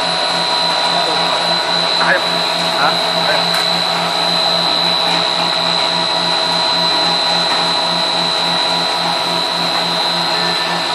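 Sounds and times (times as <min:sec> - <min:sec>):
food extruder whining: 0:00.0 - 0:10.9
low pulsing throb: 0:00.0 - 0:10.9.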